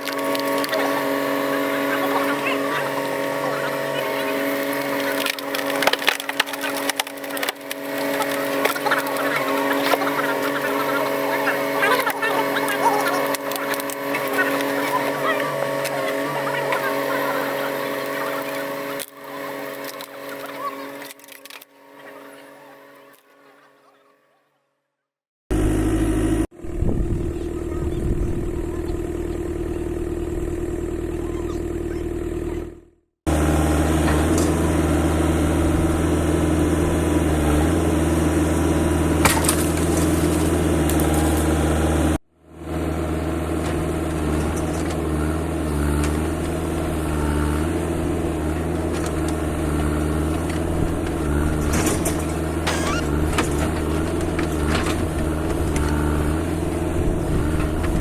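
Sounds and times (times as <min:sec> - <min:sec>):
heavy machinery engine running: 0:00.0 - 0:22.2, 0:25.5 - 0:58.0.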